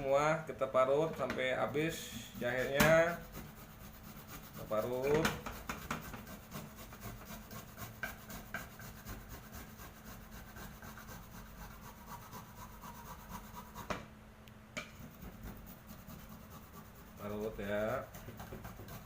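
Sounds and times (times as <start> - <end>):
ginger rasping on grater: 1.9 - 14.0, 14.8 - 19.0.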